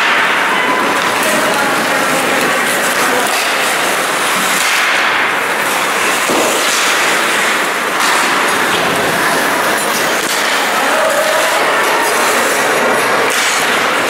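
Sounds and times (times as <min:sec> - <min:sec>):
crowd noise: 0:00.0 - 0:14.0
skates sticks and puck on ice: 0:00.0 - 0:14.0.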